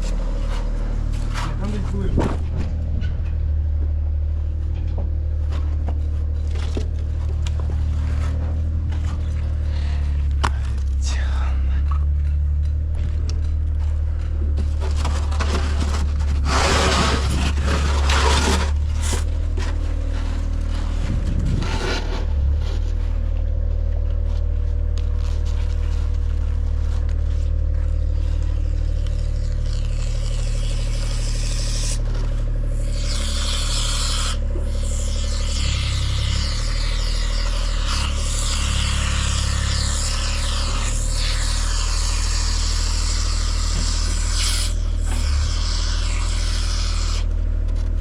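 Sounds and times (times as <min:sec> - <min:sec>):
scraping and rubbing: 0:00.0 - 0:03.5, 0:05.3 - 0:11.2, 0:11.8 - 0:48.0
engine low drone: 0:00.0 - 0:48.0.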